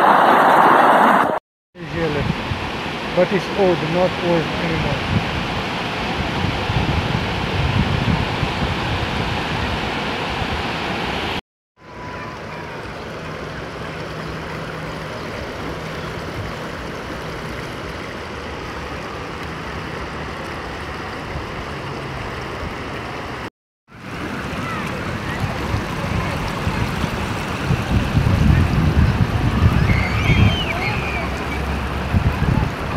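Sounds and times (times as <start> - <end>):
waterfall and river rushing: 0.0 - 11.4, 12.4 - 32.9.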